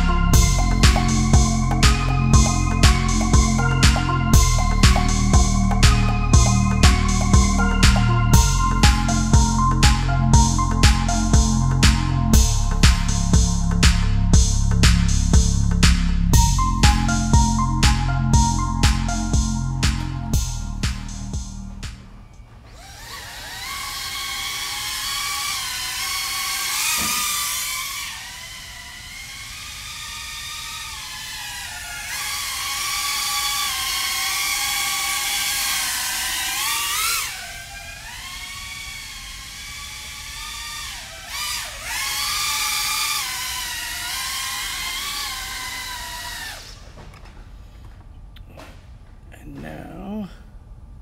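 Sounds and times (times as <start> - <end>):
drone propellers whining: 0.0 - 49.1.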